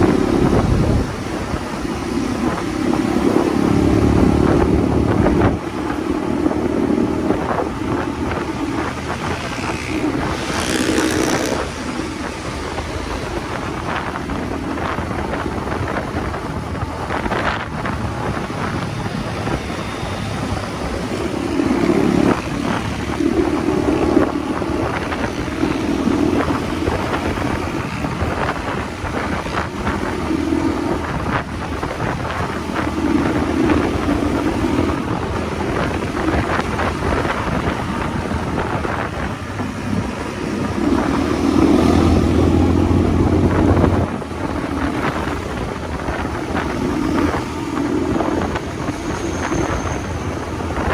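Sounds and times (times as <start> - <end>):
motorcycle engine running: 0.0 - 50.9
wind on microphone: 0.0 - 50.9.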